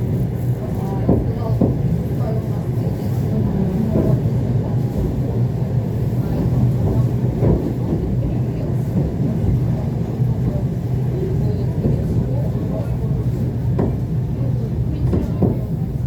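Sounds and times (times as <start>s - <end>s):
electric train low rumble: 0.0s - 16.0s.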